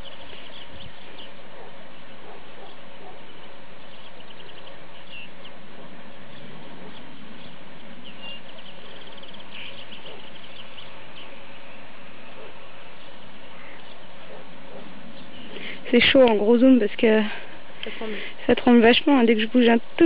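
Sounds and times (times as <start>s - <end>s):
steady meadow hiss: 0.0s - 20.0s.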